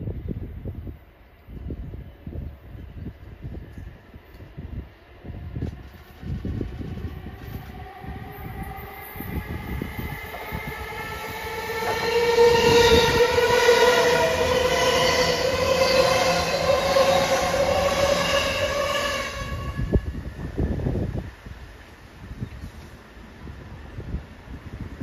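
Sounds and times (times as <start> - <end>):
train low rumble: 0.0 - 25.0
electric train whine: 1.4 - 24.9.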